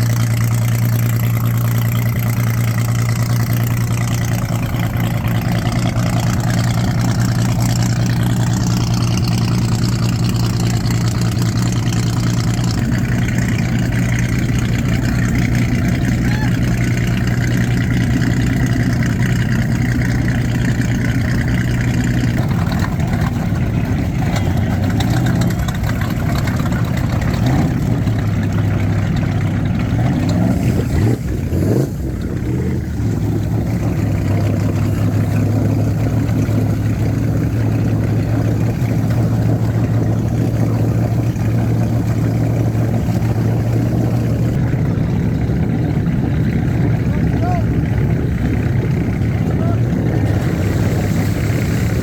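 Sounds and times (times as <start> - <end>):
motorboat engine running: 0.0 - 52.0.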